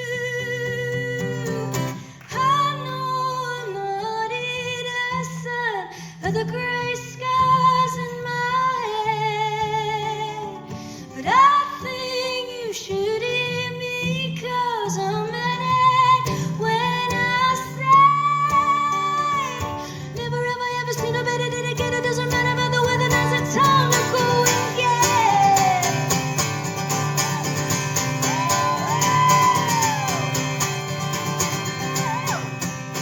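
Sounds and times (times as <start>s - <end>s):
woman singing with vibrato: 0.0s - 26.5s, 28.2s - 32.8s
guitar accompaniment: 0.0s - 33.0s.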